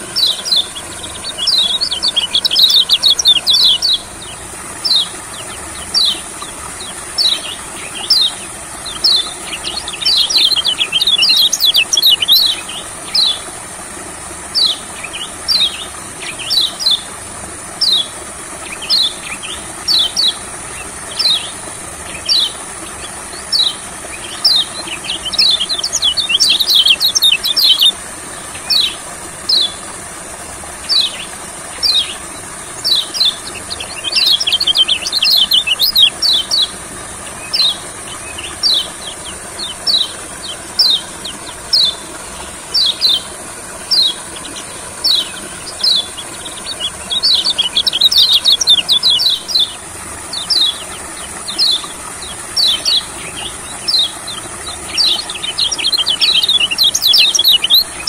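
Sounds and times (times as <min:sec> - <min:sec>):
bird chirping: 0:00.0 - 0:13.4, 0:17.8 - 0:28.0, 0:32.8 - 0:43.2, 0:43.9 - 0:58.0
bird twittering rapidly: 0:00.0 - 0:13.5, 0:14.4 - 0:58.0.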